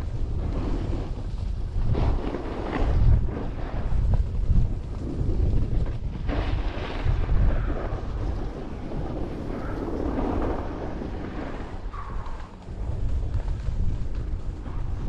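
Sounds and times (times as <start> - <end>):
snowboard scraping over snow: 0.0 - 15.0
wind buffeting microphone: 0.0 - 15.0.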